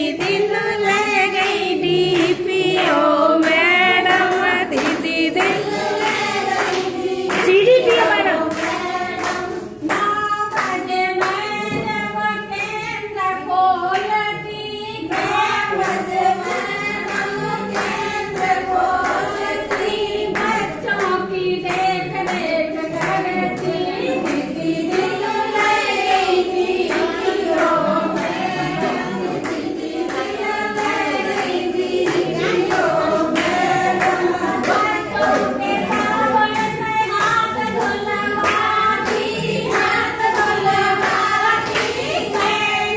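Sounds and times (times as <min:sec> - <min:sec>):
hands clapping a beat: 0:00.0 - 0:13.0, 0:13.8 - 0:42.9
women singing in unison: 0:00.0 - 0:42.9.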